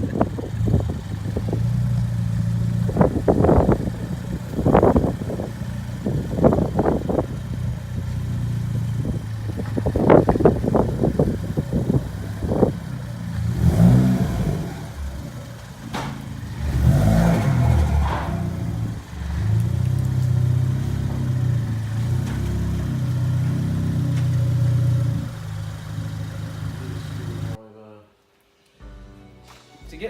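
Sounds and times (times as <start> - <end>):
car engine accelerating: 0.0 - 27.6.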